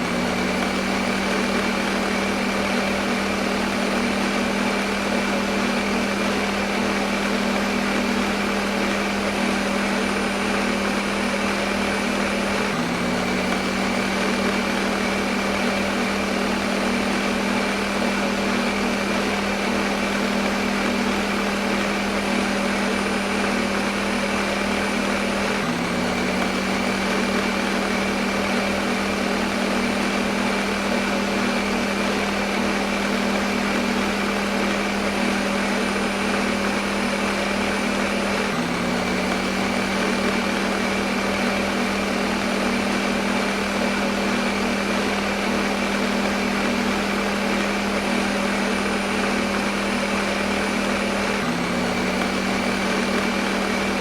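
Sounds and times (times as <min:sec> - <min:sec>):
blender running: 0:00.0 - 0:54.0.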